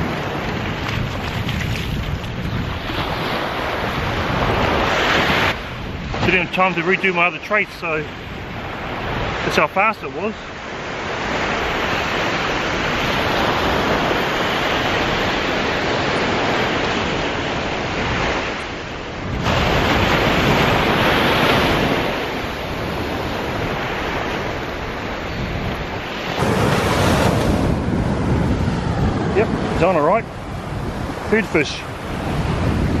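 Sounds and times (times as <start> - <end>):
wind on microphone: 0.0 - 9.5, 10.5 - 33.0
ocean surf breaking: 0.0 - 33.0.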